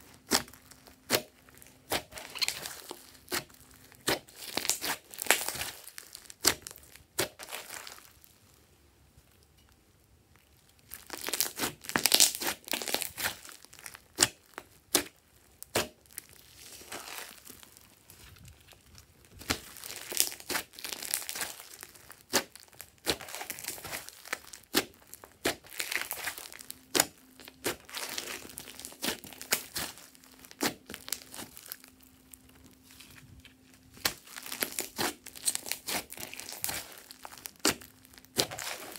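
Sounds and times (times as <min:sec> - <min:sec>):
slime crackling and popping: 0:00.0 - 0:08.4, 0:10.3 - 0:38.9.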